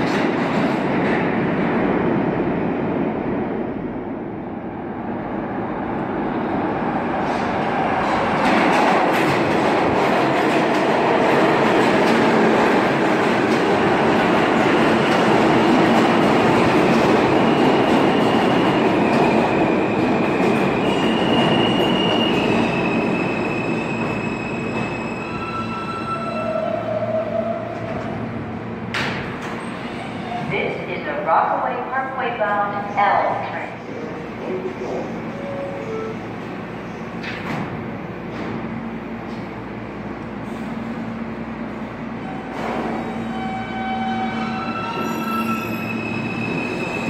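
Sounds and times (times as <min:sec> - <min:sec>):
train wheels rumbling on rails: 0:00.0 - 0:30.8, 0:33.9 - 0:47.0.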